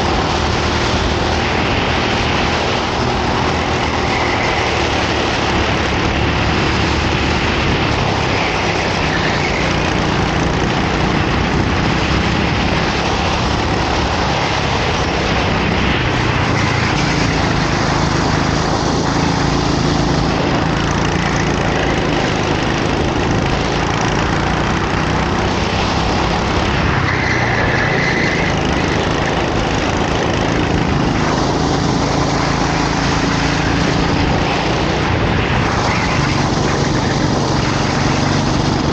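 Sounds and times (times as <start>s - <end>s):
go-kart engine droning: 0.0s - 38.9s.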